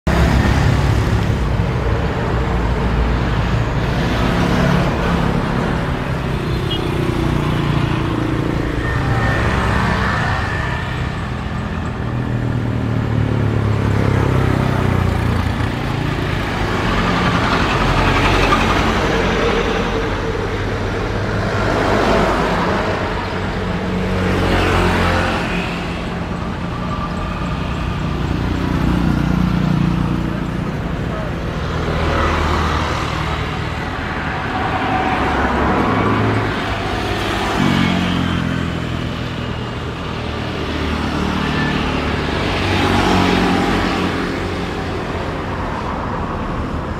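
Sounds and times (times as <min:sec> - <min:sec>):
engine and traffic rumble: 0:00.0 - 0:46.9.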